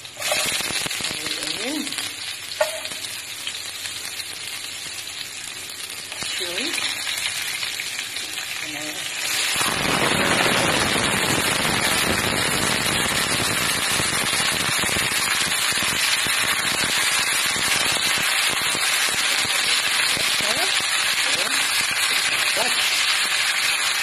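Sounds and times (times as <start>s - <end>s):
oil sizzling in a wok: 0.0s - 24.0s.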